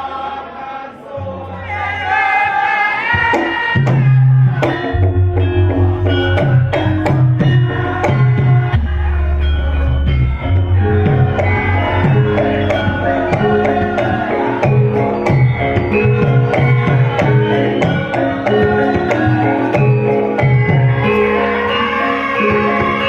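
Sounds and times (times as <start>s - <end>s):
drum strokes: 3.2s - 21.7s
struck bronze metallophones: 3.9s - 23.0s.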